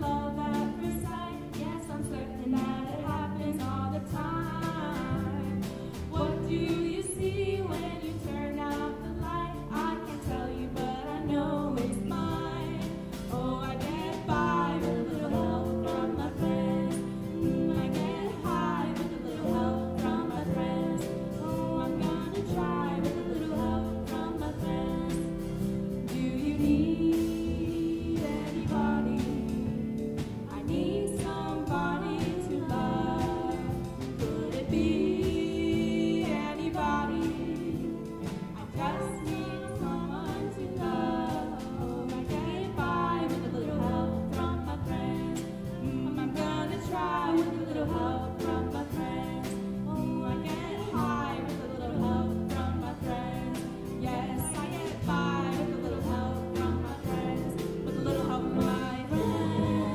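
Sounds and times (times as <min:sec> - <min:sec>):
lead vocal: 0:00.0 - 0:59.9
live band playing: 0:00.0 - 0:59.9.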